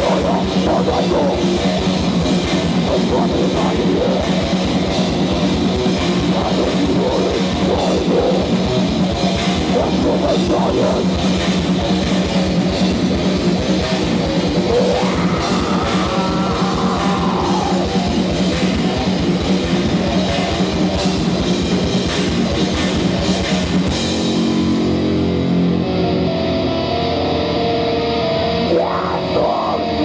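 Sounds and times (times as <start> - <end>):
fast drumming: 0.0 - 24.6
bass guitar: 0.0 - 30.0
distorted electric guitars: 0.0 - 30.0.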